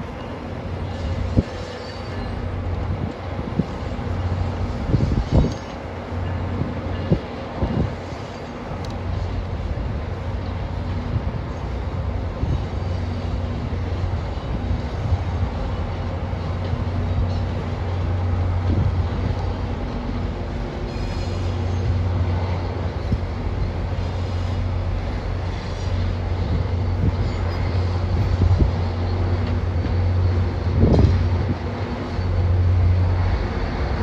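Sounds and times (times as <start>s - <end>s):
large engine humming: 0.0s - 34.0s
wind rumbling on microphone: 0.0s - 34.0s.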